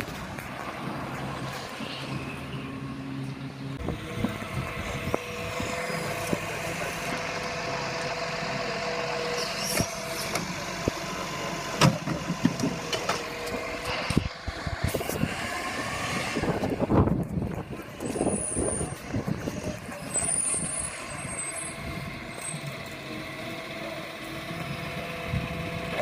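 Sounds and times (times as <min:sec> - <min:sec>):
heavy truck engine running: 0:00.0 - 0:26.0.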